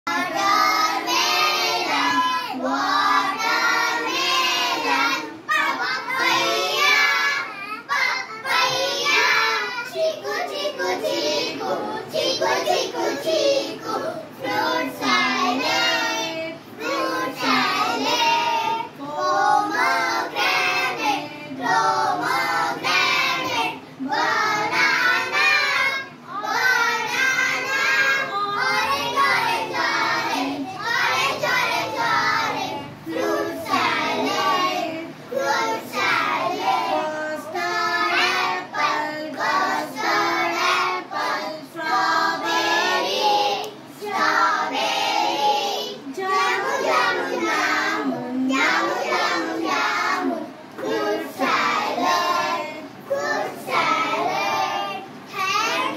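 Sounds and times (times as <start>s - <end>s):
girls singing together: 0.0s - 55.9s.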